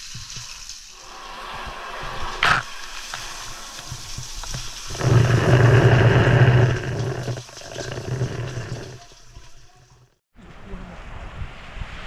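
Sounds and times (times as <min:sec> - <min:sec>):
sea water churning and splashing: 0:00.0 - 0:09.7.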